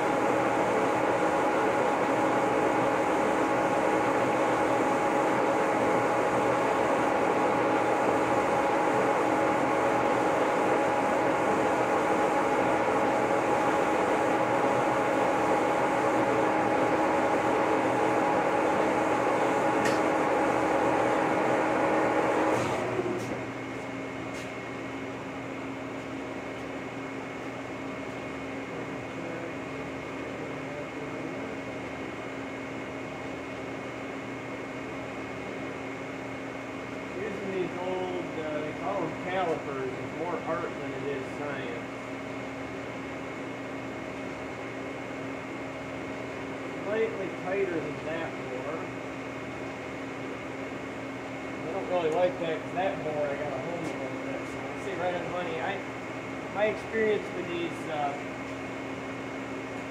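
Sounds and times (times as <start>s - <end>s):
boring mill machine whine: 0.0s - 59.9s
steady hum: 0.0s - 59.9s.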